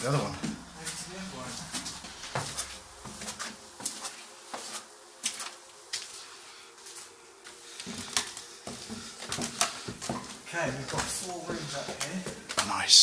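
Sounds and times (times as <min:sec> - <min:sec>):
sharp footsteps: 0:00.2 - 0:06.2, 0:06.8 - 0:12.8.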